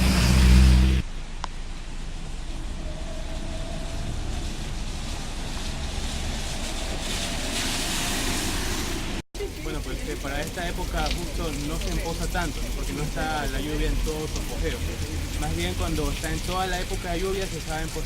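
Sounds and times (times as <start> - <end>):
tyres hissing on wet road: 0.0 - 1.1, 1.7 - 18.0
engine rumble: 0.0 - 18.0.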